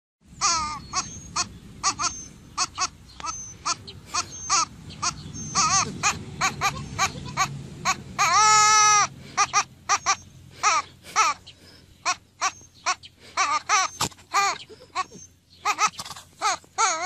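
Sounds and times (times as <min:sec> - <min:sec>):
goat kid bleating: 0:00.4 - 0:17.0.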